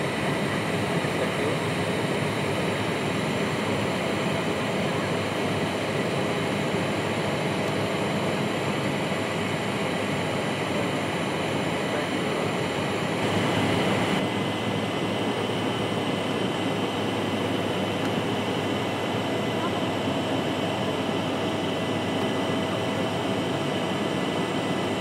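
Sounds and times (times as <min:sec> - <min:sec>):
jet engine hum: 0:00.0 - 0:25.0.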